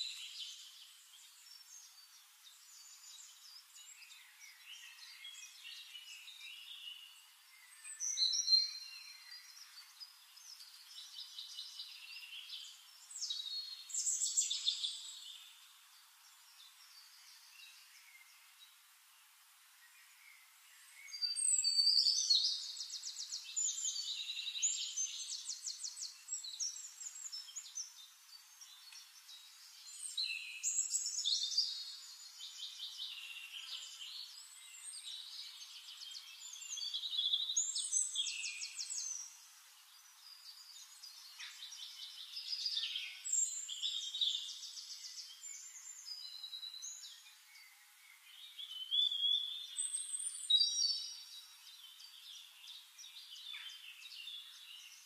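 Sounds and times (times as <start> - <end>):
songbird trilling and chirping: 0.0 - 18.6, 20.0 - 55.0.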